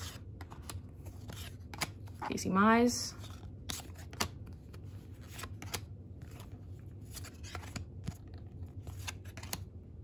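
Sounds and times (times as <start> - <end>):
trading cards being flipped: 0.0 - 2.4, 3.2 - 9.7.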